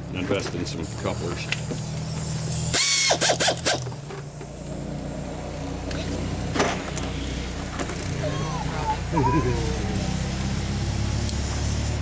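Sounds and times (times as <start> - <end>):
pneumatic impact wrench rattling: 0.8 - 12.0.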